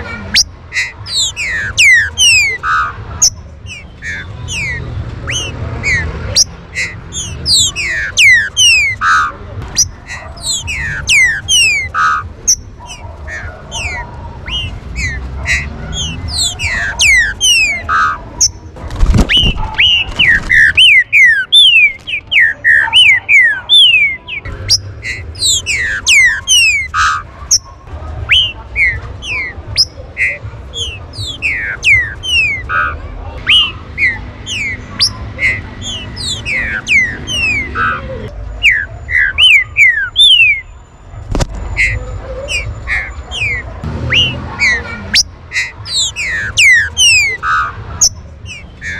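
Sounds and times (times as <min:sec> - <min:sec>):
birds whistling calls: 0:00.0 - 0:48.9.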